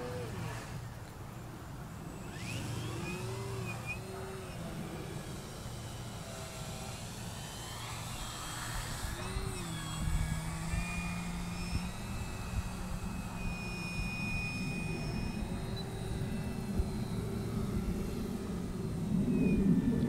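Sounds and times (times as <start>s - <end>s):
model plane motor droning: 0.0s - 20.0s.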